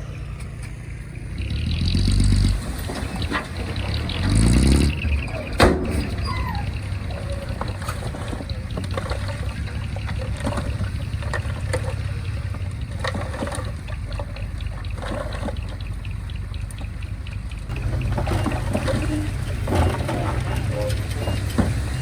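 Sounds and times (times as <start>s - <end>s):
heavy machinery diesel engine: 0.0s - 22.0s
metal clanks and rattles: 0.0s - 22.0s.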